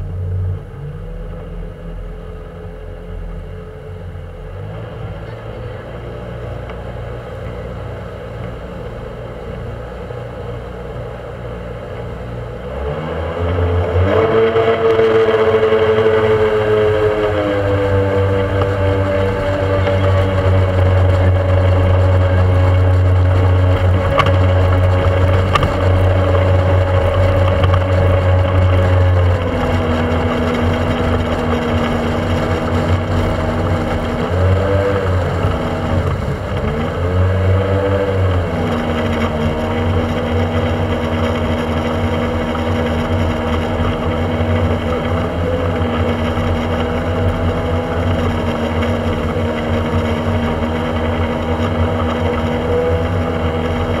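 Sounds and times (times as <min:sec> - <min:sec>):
speedboat engine running: 0:00.0 - 0:54.0
rush of wind and water: 0:04.5 - 0:54.0.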